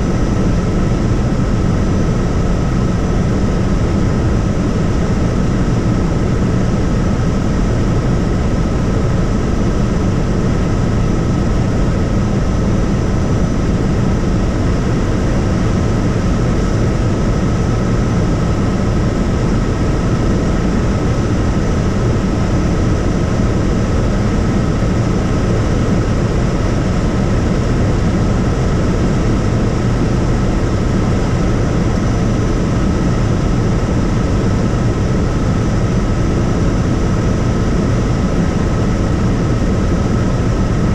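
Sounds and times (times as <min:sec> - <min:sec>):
helicopter engine and rotor noise: 0:00.0 - 0:40.9.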